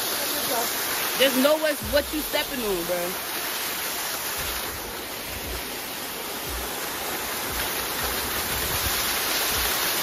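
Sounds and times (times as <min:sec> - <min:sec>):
waterfall pouring onto rocks: 0:00.0 - 0:10.0.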